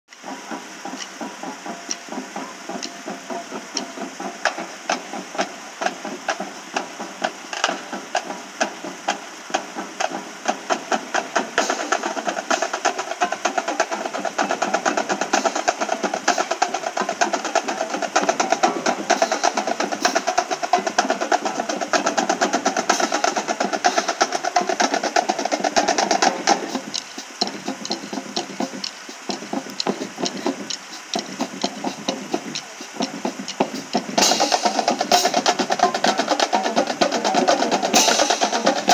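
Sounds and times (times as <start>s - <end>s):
drums beating fast cadence: 0.1s - 38.9s
marching band playing: 0.1s - 38.9s.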